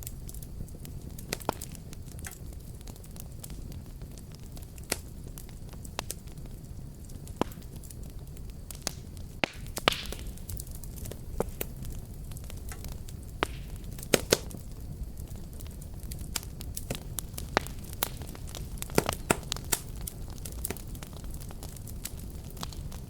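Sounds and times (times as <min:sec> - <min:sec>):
fire crackling and popping: 0:00.0 - 0:23.0
low rumble of burning: 0:00.0 - 0:23.0.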